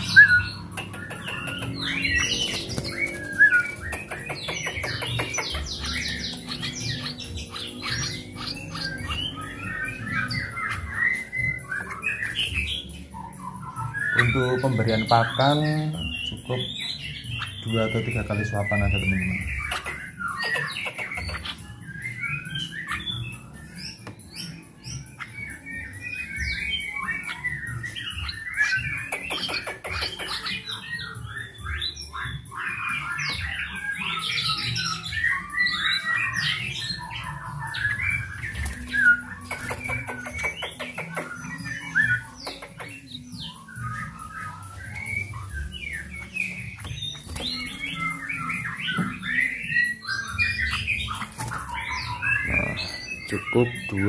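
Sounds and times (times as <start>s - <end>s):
bird chicks chirping and squawking: 0.0s - 54.0s.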